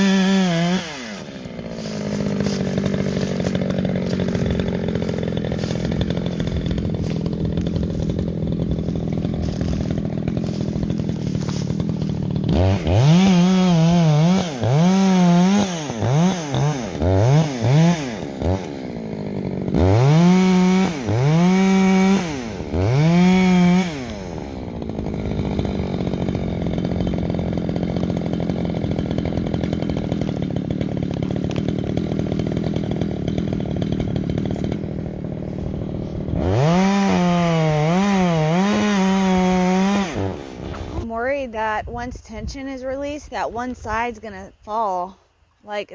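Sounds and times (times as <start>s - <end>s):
chainsaw running and revving: 0.0s - 41.1s.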